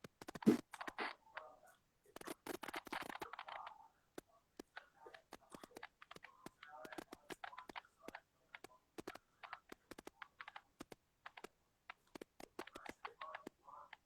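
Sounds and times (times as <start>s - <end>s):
faint sharp clicks and taps: 0.0s - 14.0s.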